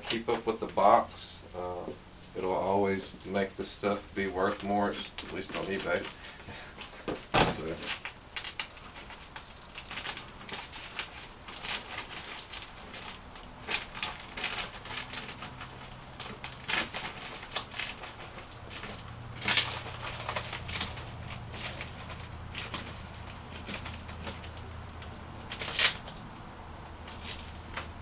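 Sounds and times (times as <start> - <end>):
plastic stretch wrap crinkling: 2.3 - 28.0.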